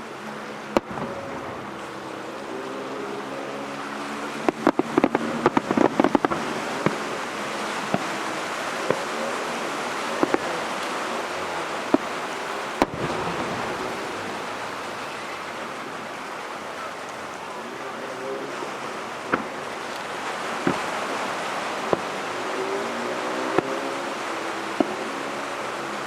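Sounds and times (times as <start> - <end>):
steady background rush: 0.0 - 26.0
fireworks bursting: 0.1 - 26.0.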